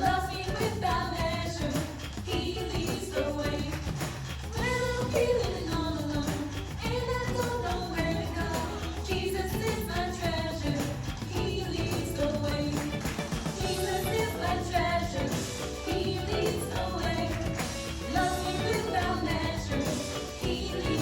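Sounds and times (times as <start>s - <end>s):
upbeat pop song with vocals: 0.0s - 21.0s.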